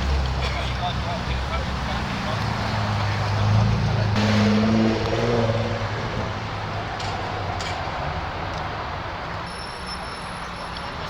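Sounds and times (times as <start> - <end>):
car engine: 0.0 - 9.4
rush of traffic noise: 0.0 - 11.0.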